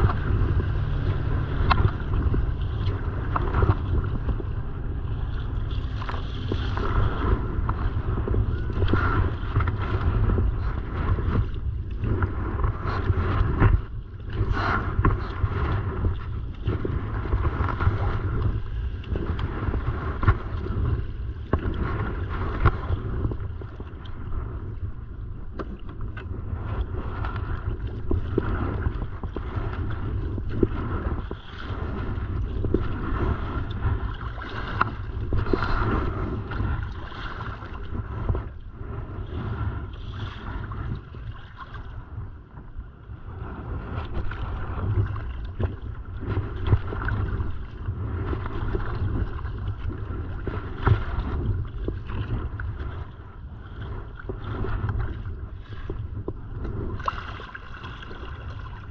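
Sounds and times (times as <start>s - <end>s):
kayak paddle strokes: 0.0s - 58.9s
water splashing around hull: 0.0s - 58.9s
wind rumble on microphone: 0.0s - 58.9s.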